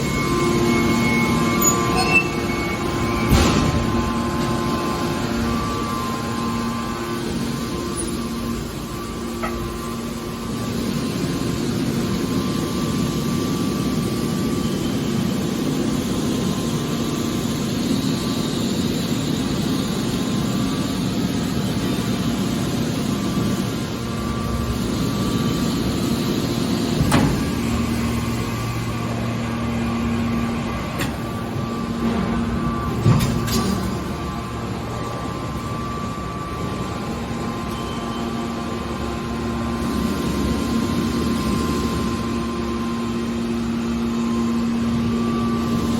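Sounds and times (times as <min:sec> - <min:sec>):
baler motor and pump hum: 0:00.0 - 0:45.9.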